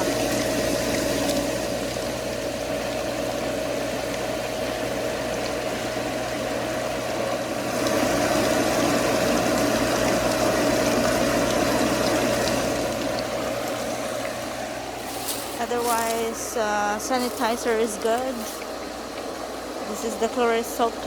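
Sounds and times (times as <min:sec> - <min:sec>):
pool pump motor humming: 0:00.0 - 0:21.0
water rushing through pump: 0:00.0 - 0:21.0.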